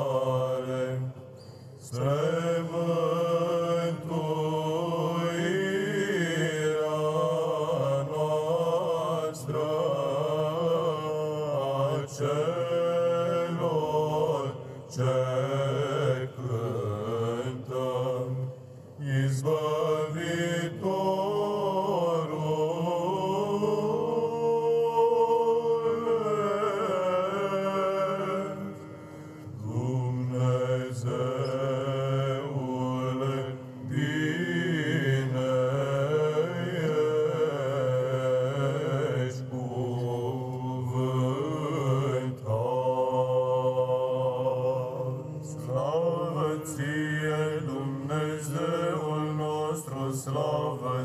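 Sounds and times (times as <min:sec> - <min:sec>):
male choir chanting: 0:00.0 - 0:01.2, 0:01.8 - 0:51.0.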